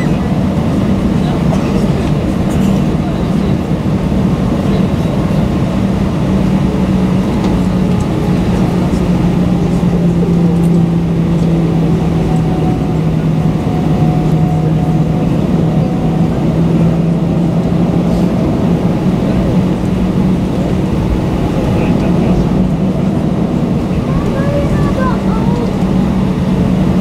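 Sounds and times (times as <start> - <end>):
airplane cabin engine drone: 0.0 - 27.0.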